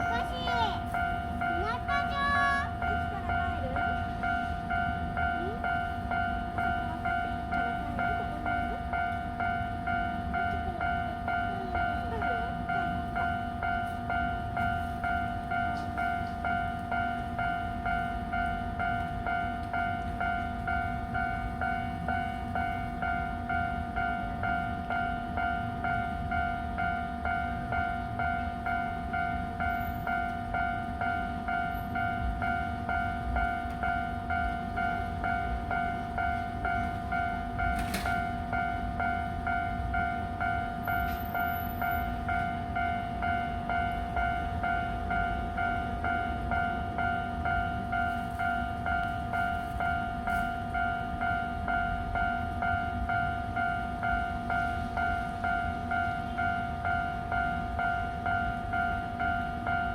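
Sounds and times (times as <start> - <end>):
level crossing warning bell ringing: 0.0 - 59.9.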